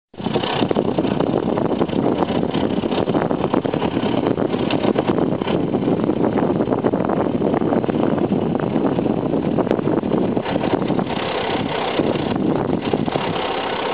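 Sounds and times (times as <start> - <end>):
wind buffeting microphone: 0.2 - 13.9.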